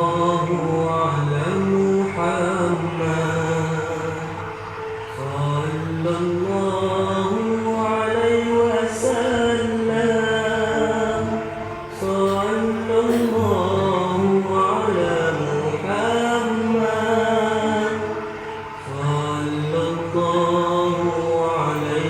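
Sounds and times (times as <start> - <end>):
voice chanting long notes: 0.0 - 22.0.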